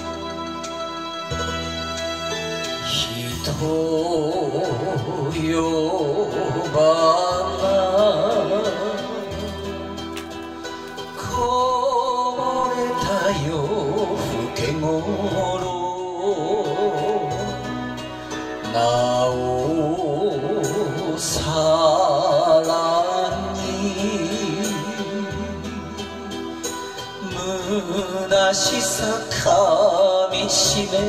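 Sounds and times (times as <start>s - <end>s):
karaoke backing track: 0.0s - 31.0s
man singing into a microphone: 2.7s - 10.1s, 10.9s - 31.0s.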